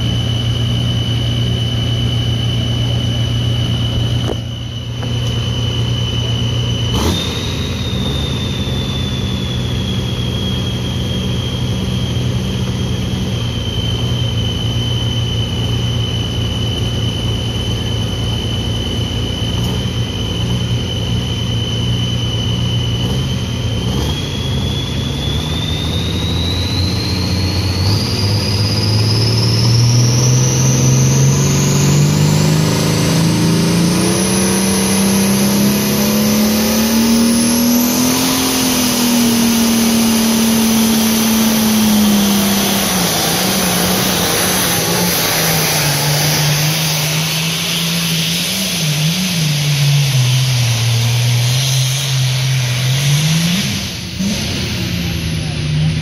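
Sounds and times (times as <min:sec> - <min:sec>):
high turbo whistle: 0:00.0 - 0:56.0
tractor diesel engine: 0:00.0 - 0:56.0.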